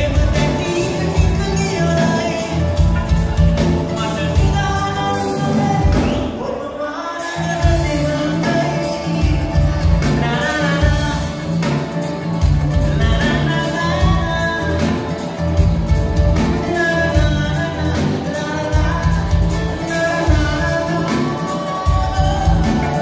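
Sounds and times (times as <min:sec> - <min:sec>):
drums with steady beat: 0:00.0 - 0:06.6, 0:07.2 - 0:23.0
electric and acoustic guitars: 0:00.0 - 0:23.0
man singing: 0:00.0 - 0:23.0.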